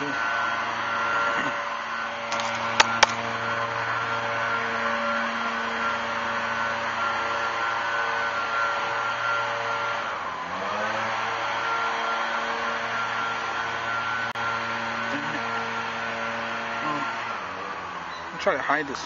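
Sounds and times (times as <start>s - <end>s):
machine hum and drone: 0.0s - 19.0s.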